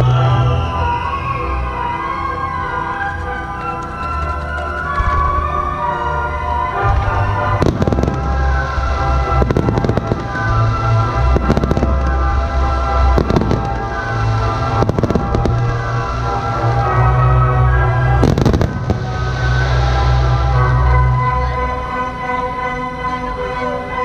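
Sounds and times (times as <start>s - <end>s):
fireworks bursting: 0.0s - 20.9s.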